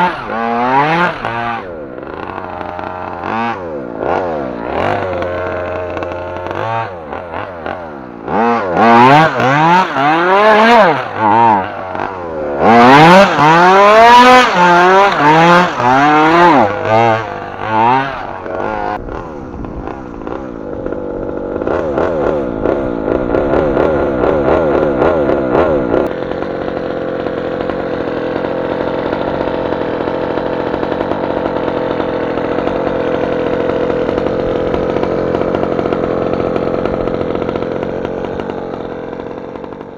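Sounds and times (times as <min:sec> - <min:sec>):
small two-stroke engine revving: 0:00.0 - 0:39.9.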